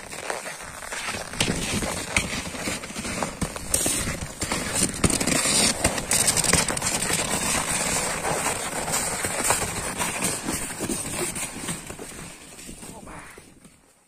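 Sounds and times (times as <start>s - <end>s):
horse hooves crunching snow: 0.0s - 14.0s.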